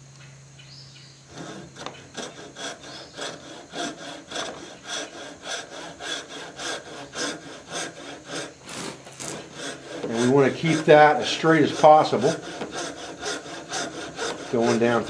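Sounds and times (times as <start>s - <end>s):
hand saw cutting wood: 1.3s - 15.0s.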